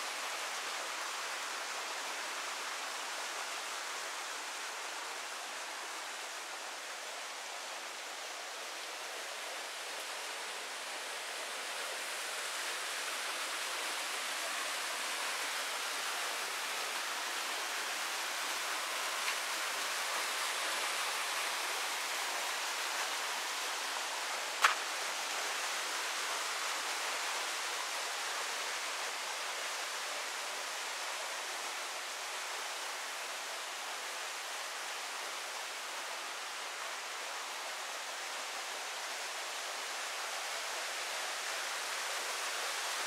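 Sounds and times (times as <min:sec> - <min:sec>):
river and waterfall rushing: 0:00.0 - 0:43.0.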